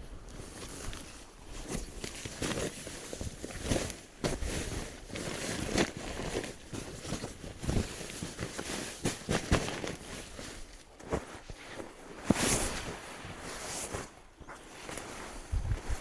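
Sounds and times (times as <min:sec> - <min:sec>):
rustling and crunching handling: 0:00.0 - 0:16.0.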